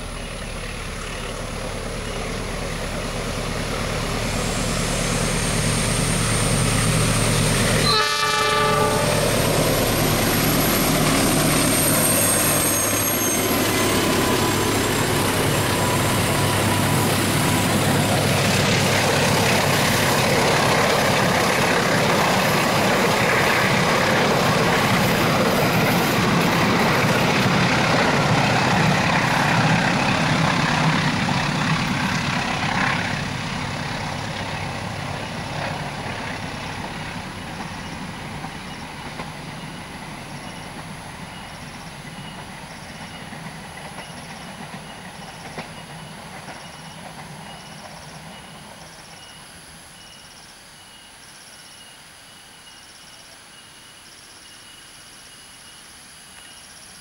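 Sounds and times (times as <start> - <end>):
train rumbling past: 0.0 - 51.2.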